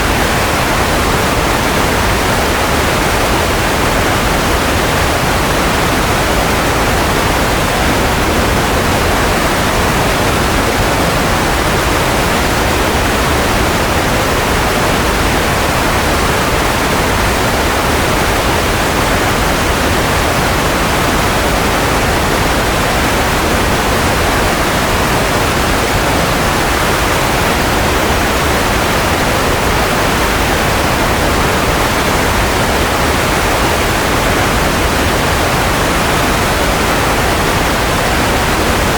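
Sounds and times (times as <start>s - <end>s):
steady white noise: 0.0s - 38.9s.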